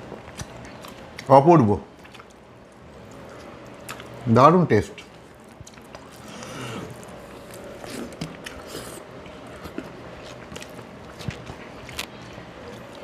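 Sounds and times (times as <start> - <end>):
person chewing: 0.0 - 1.3, 1.9 - 4.2, 5.0 - 13.0
food squishing: 0.0 - 13.0.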